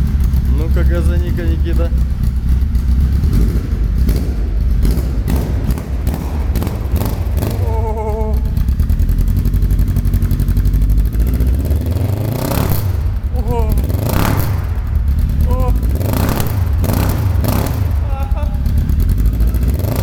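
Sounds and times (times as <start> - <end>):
motorcycle engine exhaust rumbling: 0.0 - 20.0.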